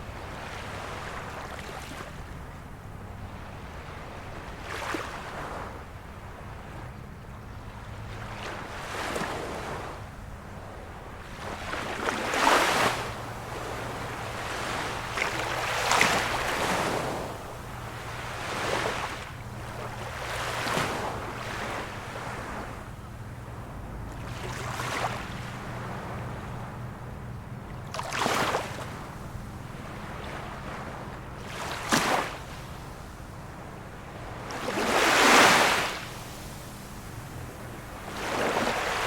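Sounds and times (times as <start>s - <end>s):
small sea waves washing in: 0.0s - 39.0s.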